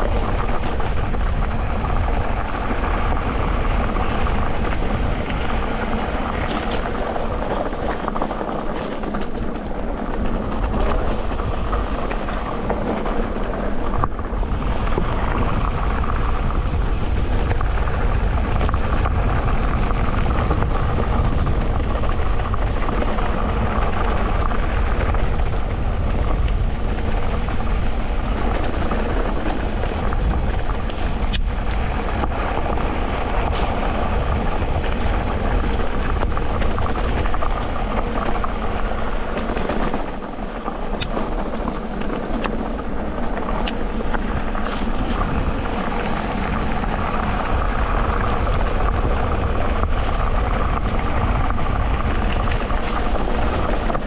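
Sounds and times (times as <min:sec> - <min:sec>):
bike rattling and knocking: 0:00.0 - 0:54.0
bike tyres rolling on dirt: 0:00.0 - 0:54.0.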